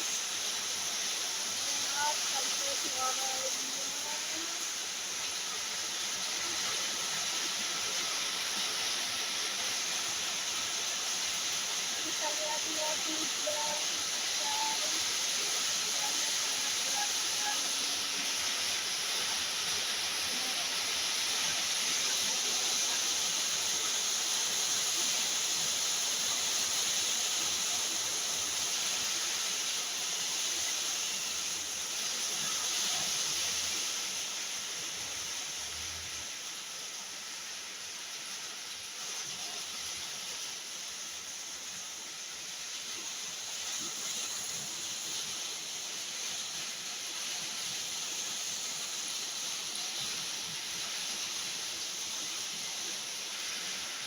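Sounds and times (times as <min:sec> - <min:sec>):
heavy rain pouring: 0:00.0 - 0:40.0, 0:40.6 - 0:54.0.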